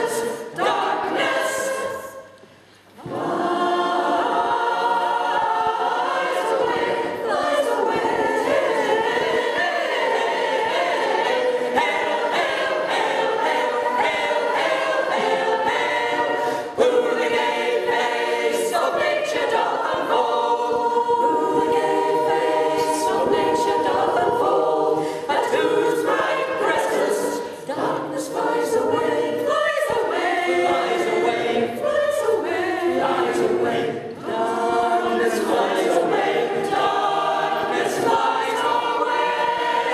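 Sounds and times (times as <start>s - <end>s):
choir singing unaccompanied: 0.0s - 2.4s, 3.0s - 39.9s.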